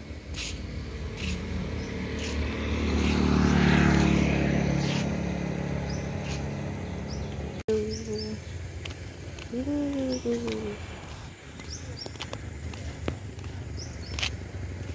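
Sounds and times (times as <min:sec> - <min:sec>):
vehicle passing by: 0:00.0 - 0:14.9.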